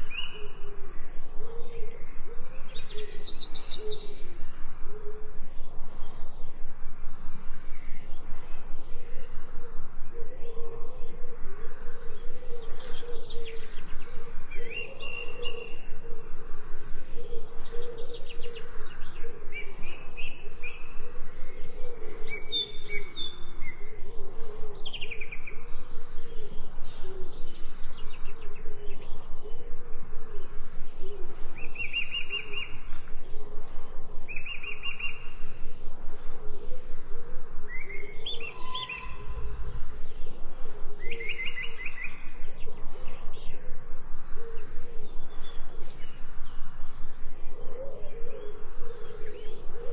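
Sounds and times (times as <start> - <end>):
birds chirping: 0.0 - 49.9
low pulsing sound: 0.0 - 49.9.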